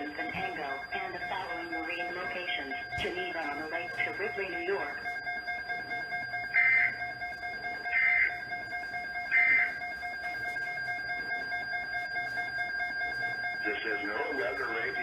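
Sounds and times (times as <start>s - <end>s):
faint steady radio tone: 0.0s - 15.0s.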